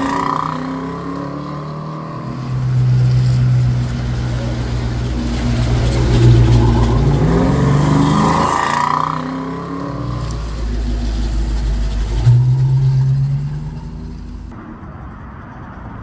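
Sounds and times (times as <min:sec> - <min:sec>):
truck engine accelerating: 0:00.0 - 0:14.6.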